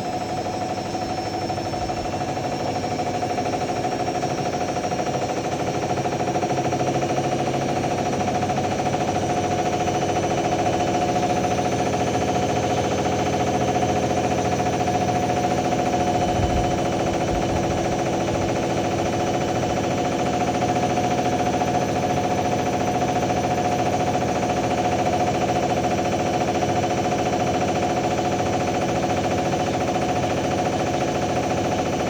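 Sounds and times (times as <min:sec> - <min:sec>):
washer-dryer whining and rattling: 0:00.0 - 0:32.0.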